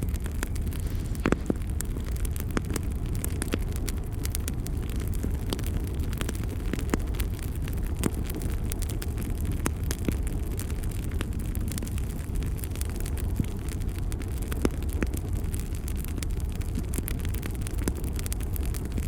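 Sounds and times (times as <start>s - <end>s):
burning wood crackling and popping: 0.0s - 19.0s
low rumble of flames: 0.0s - 19.0s.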